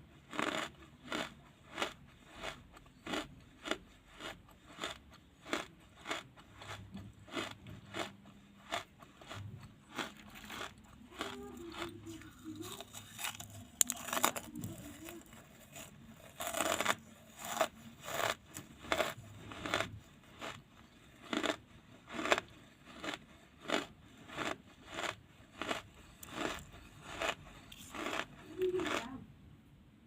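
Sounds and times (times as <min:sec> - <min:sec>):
charcoal crunching as chewed: 0:00.0 - 0:29.2.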